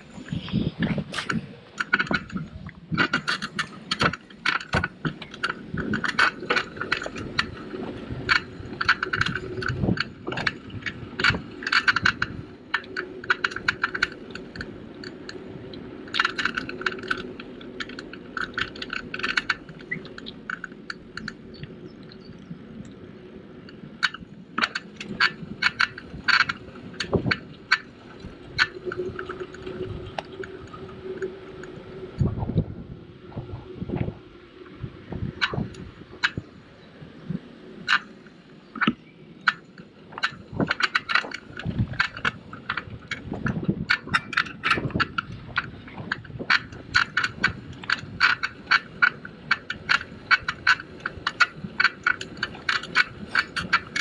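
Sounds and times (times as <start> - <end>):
bicycle rattling and clattering: 0.0 - 54.0.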